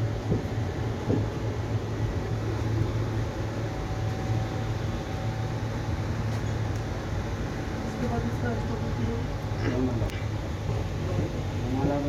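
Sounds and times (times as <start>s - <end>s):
train coach running hum: 0.0s - 12.0s.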